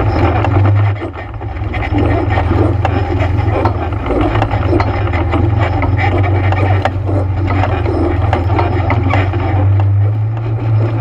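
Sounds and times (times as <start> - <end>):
atv engine running: 0.0 - 11.0
knocks and rattles: 0.0 - 11.0.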